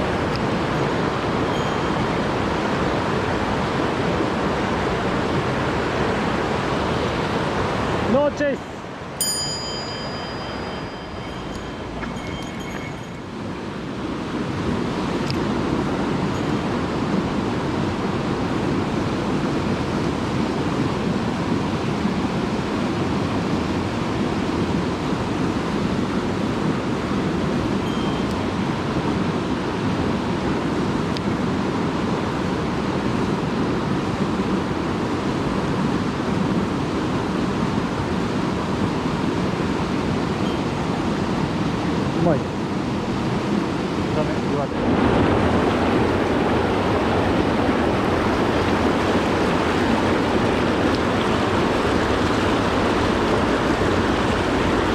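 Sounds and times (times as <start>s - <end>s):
stream water rushing: 0.0s - 54.9s.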